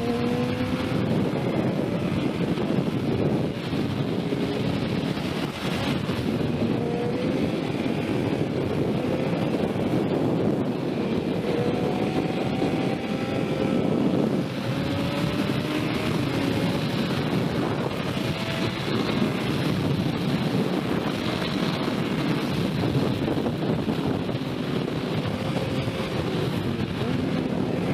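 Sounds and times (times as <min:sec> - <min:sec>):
motorcycle engine accelerating: 0:00.0 - 0:27.9
wind rush over microphone: 0:00.0 - 0:27.9.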